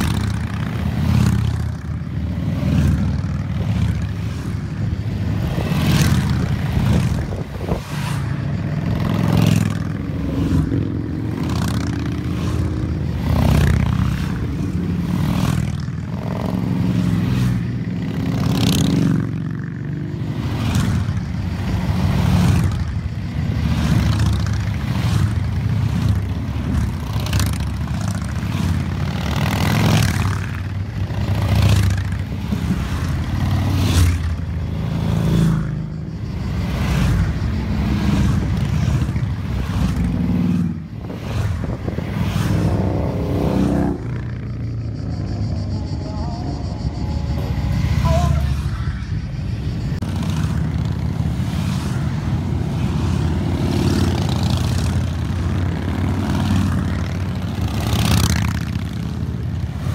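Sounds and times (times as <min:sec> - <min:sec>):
motorcycles riding past: 0:00.0 - 0:59.9.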